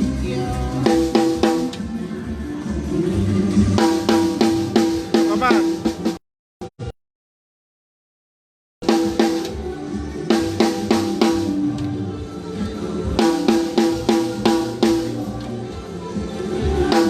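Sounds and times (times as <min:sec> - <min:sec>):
drum kit beat: 0:00.0 - 0:06.9, 0:08.8 - 0:11.9, 0:12.5 - 0:17.0.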